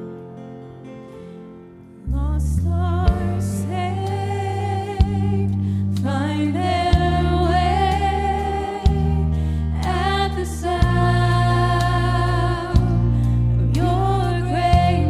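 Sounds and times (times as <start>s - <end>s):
gospel band with heavy bass: 2.1s - 15.0s
woman singing lead: 2.1s - 15.0s.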